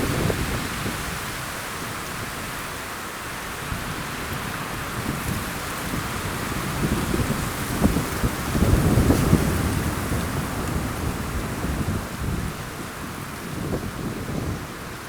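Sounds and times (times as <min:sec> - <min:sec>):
wind buffeting microphone: 0:00.0 - 0:02.6, 0:03.5 - 0:15.0
wind rushing through pines: 0:00.0 - 0:15.0.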